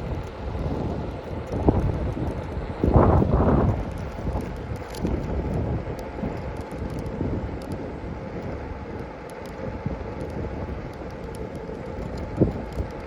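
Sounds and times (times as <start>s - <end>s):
faint ticks: 0.0s - 13.0s
steady low rumble: 0.0s - 13.0s
wind buffeting microphone: 0.0s - 13.0s.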